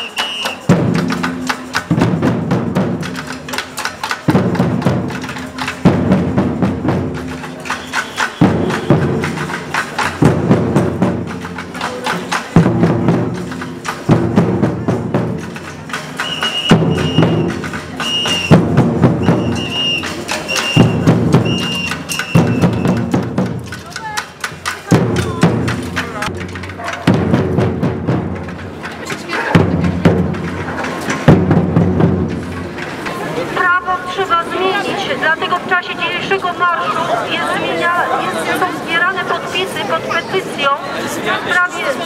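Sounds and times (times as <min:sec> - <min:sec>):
drum group beating barrel drums: 0:00.0 - 0:33.9.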